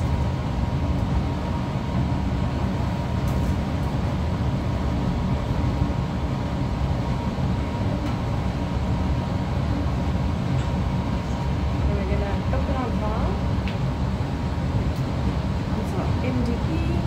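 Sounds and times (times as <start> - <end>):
blower rushing air: 0.0 - 17.0.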